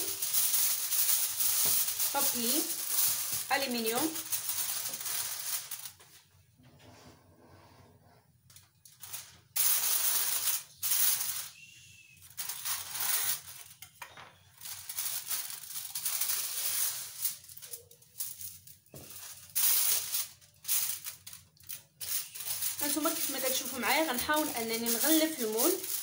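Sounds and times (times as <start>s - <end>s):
aluminium foil crinkling: 0.0s - 6.2s, 8.5s - 26.0s.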